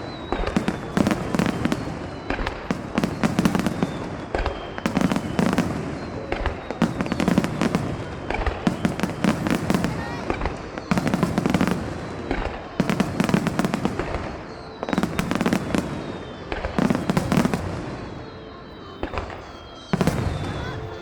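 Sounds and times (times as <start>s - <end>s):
fireworks bursting: 0.0s - 21.0s
fireworks whistling: 0.0s - 21.0s.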